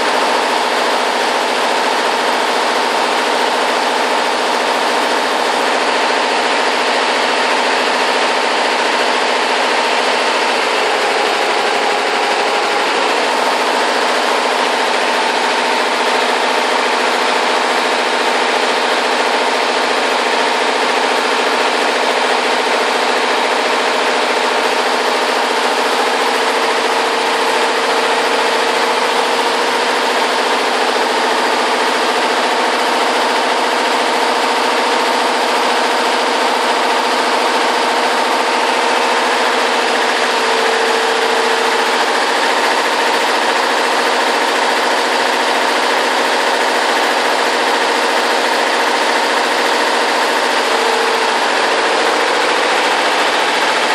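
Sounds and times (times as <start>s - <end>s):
embroidery machine stitching: 0.0s - 53.9s.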